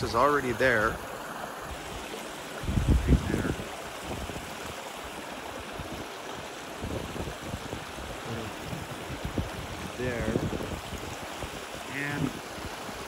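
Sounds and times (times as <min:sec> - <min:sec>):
water rushing through culvert: 0:00.0 - 0:13.0.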